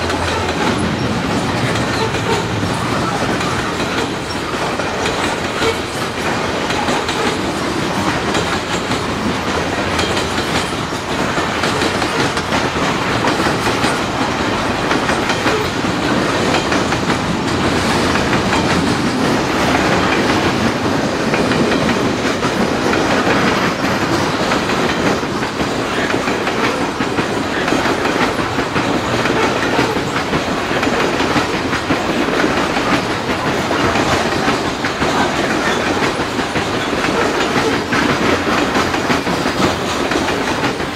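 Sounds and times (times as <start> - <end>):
freight train rumbling past: 0.0 - 40.9
steel wheels clicking over rail: 0.0 - 40.9.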